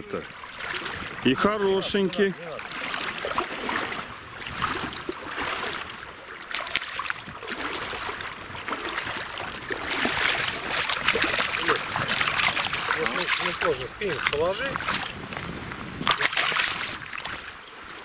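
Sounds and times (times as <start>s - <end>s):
fish splashing in shallow water: 0.0s - 18.0s
river rushing: 0.0s - 18.0s.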